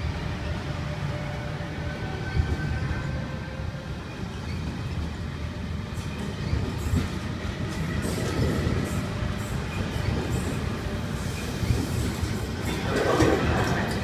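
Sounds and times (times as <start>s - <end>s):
train rolling past: 0.0s - 14.0s.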